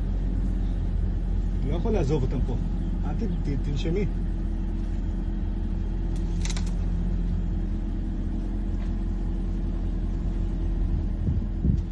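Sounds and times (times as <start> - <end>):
jeep engine idling: 0.0 - 11.9.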